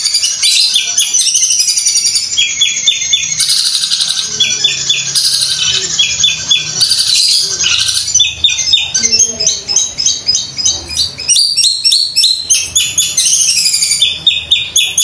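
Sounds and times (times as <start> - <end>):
bird singing buzzy trill: 0.0 - 15.0.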